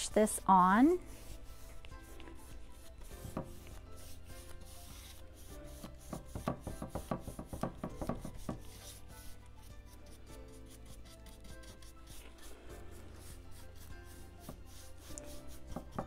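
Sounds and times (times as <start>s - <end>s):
paintbrush scrubbing rough wood: 0.8s - 16.0s.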